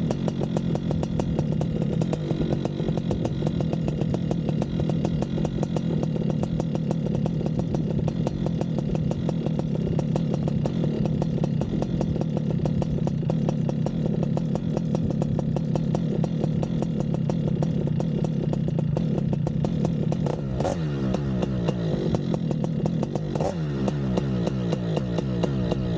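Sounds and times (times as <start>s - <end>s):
paramotor engine idling: 0.0s - 25.9s.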